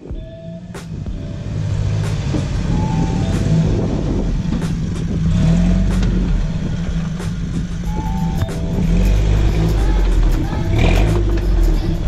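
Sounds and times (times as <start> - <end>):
truck engine running under load: 0.6 - 12.0.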